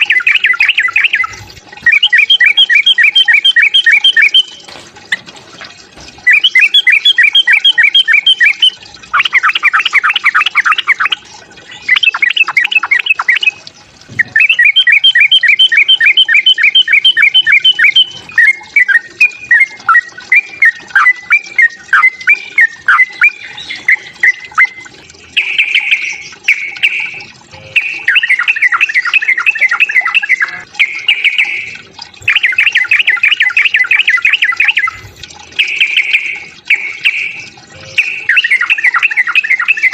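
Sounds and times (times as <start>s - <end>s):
bird warbling: 0.0s - 5.2s, 6.1s - 39.9s.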